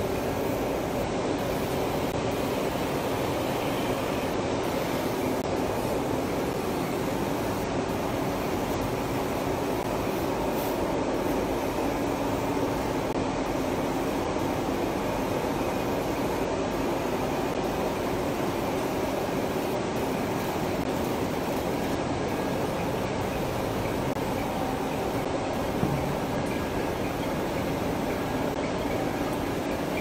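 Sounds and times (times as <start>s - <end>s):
faint steady hums: 0.0s - 30.0s
machinery mechanical drone: 0.0s - 30.0s.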